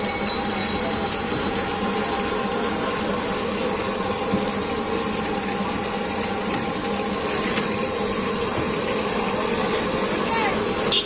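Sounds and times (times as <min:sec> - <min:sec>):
oil sizzling on griddle: 0:00.0 - 0:11.0
street traffic hum: 0:00.0 - 0:11.0.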